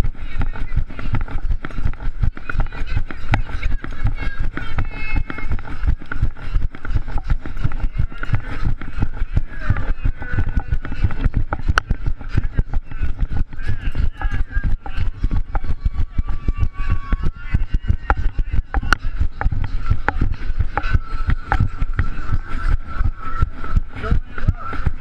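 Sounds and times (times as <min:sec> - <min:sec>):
camera knocking and rubbing: 0:00.0 - 0:25.0
runner's footfalls: 0:00.0 - 0:25.0
spectators' voices: 0:00.0 - 0:25.0.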